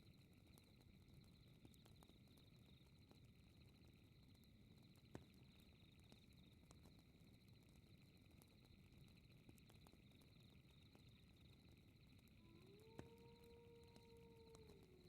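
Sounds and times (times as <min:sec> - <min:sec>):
fireplace crackling and popping: 0:00.1 - 0:15.0.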